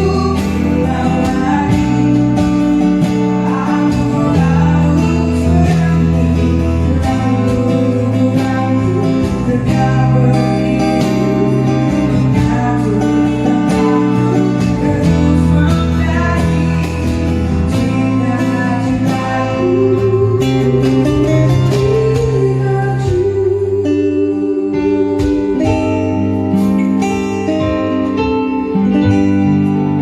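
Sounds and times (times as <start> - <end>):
band playing: 0.0 - 30.0.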